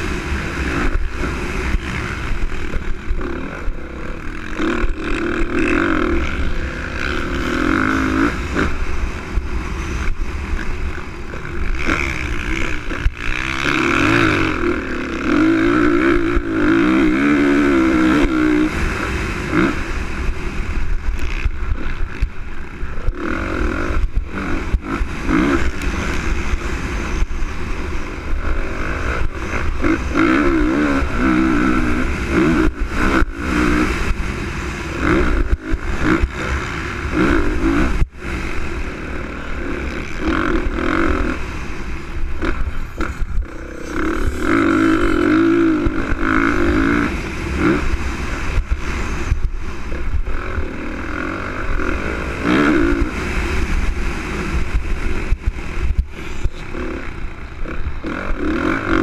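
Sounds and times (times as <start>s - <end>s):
wind rush: 0.0s - 58.2s
motorcycle engine revving: 0.0s - 59.0s.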